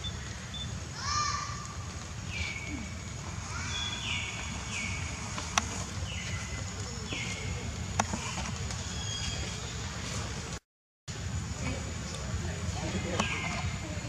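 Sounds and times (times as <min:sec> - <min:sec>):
low steady background noise: 0:00.0 - 0:14.0.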